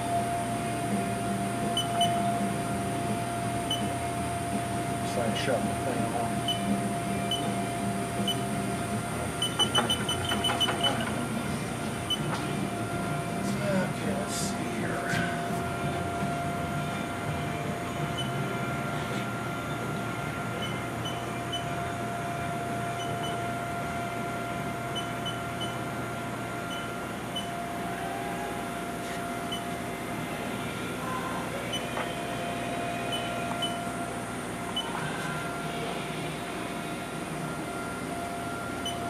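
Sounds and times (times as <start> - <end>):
machine hum with whine: 0.0 - 39.0.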